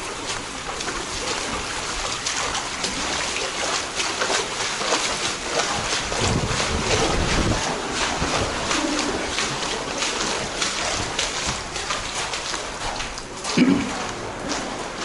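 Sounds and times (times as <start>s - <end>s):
floodwater splashing and lapping: 0.0s - 15.0s
steady wash of water: 0.0s - 15.0s.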